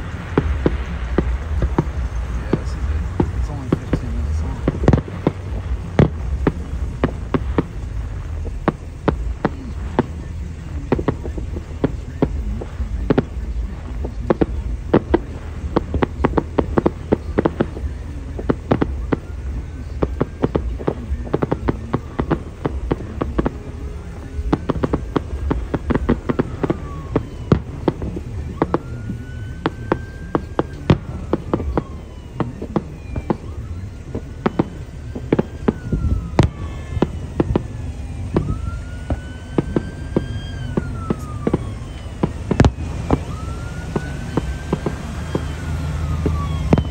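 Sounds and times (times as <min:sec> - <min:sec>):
fireworks bangs and crackles: 0:00.0 - 0:46.9
low fireworks booms: 0:00.0 - 0:46.9.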